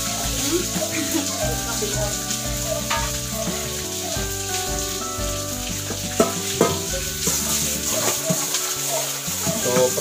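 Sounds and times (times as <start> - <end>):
food sizzling in a pan: 0.0 - 10.0
tap water running into pot: 0.0 - 10.0
pot knocking on steel sink: 0.8 - 4.9, 5.7 - 10.0.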